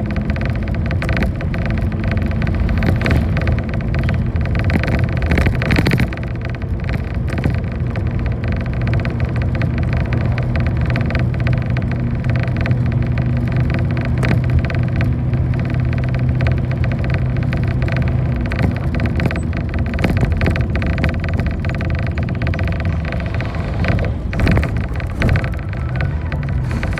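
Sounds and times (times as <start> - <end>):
bus body rattling and knocking: 0.0 - 26.9
bus engine drone: 0.0 - 26.9.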